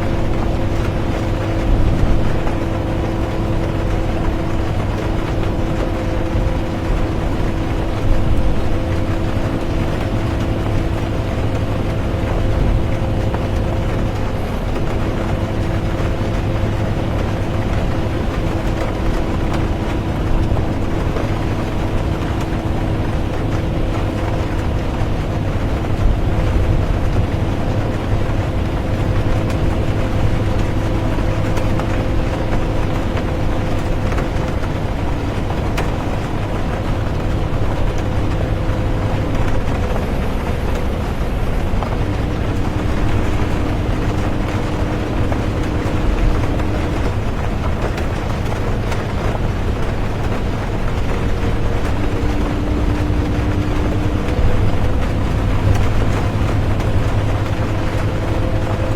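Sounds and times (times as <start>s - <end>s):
bus engine humming: 0.0s - 58.9s
rain: 0.0s - 58.9s
road and tyre noise: 0.0s - 58.9s.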